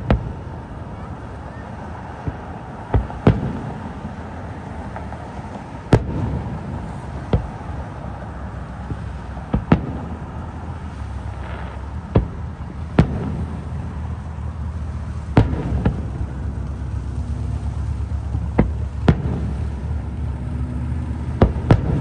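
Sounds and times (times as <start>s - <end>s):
fireworks booming: 0.0s - 22.0s
low rumble of echo: 0.0s - 22.0s.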